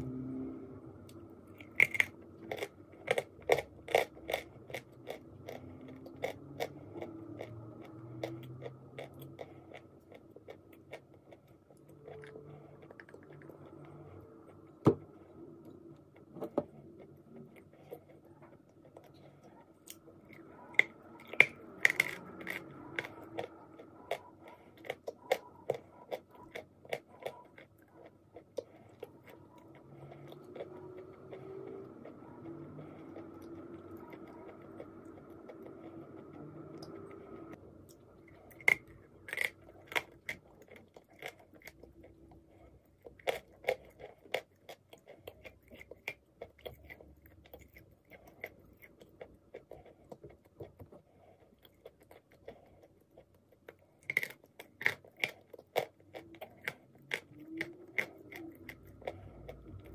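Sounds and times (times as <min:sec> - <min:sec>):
crunchy chewing of clay: 0:00.0 - 0:59.9.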